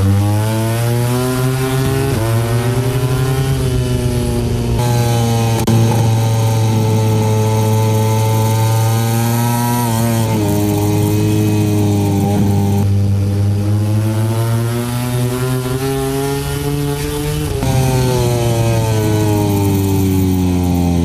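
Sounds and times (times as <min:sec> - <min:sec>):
race motorcycle engine running hard: 0:00.0 - 0:21.0.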